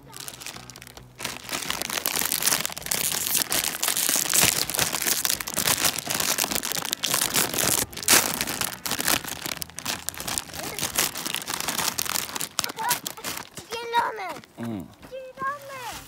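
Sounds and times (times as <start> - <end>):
plastic packet crinkling: 0.0 - 14.6.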